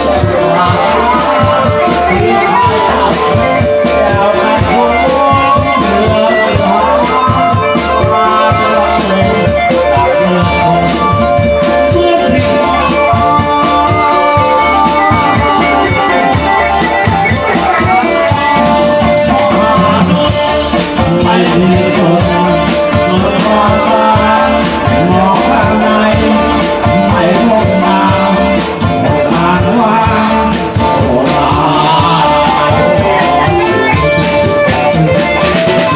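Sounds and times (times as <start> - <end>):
bass: 0.0 - 35.9
electronic keyboard melody: 0.0 - 35.9
steady drum beat: 0.0 - 35.9.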